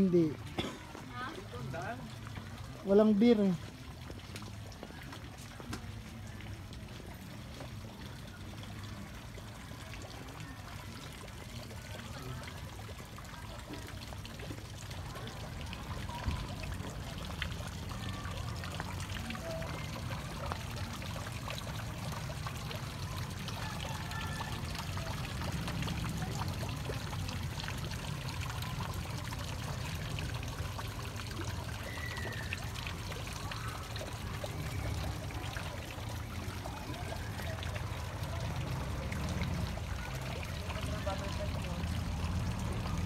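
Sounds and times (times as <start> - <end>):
water trickling into pond: 0.0 - 43.0.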